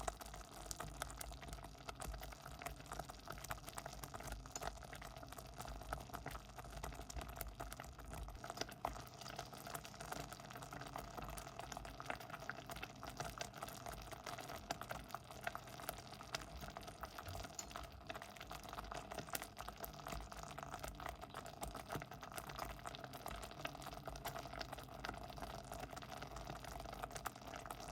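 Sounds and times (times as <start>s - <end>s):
porridge bubbling in a pot: 0.0s - 27.9s.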